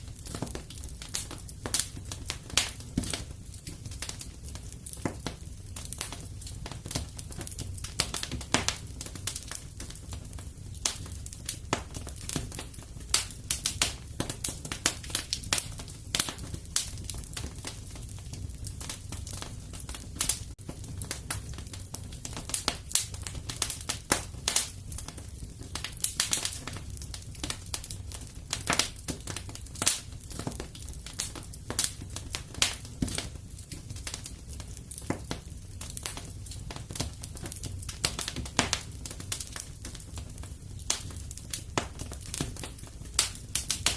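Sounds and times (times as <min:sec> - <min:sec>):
wood fire crackling in fireplace: 0:00.0 - 0:43.9.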